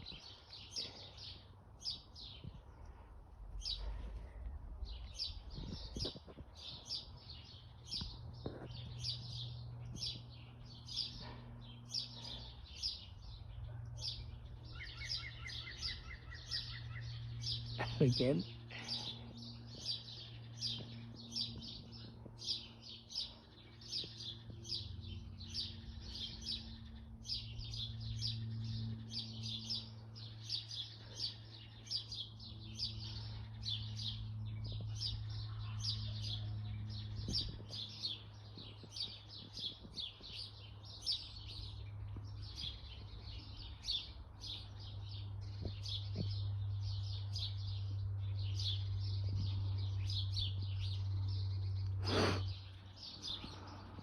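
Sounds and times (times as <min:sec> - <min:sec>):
small birds chirping: 0:00.0 - 0:54.0
steady low hum: 0:00.0 - 0:54.0.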